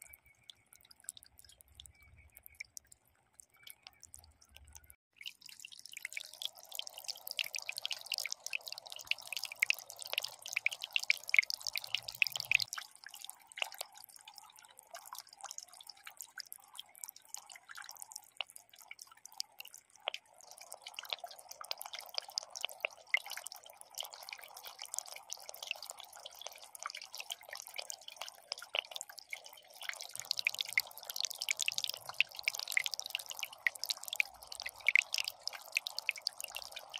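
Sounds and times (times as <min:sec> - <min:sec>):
water trickling in a fountain: 0:00.0 - 0:36.9.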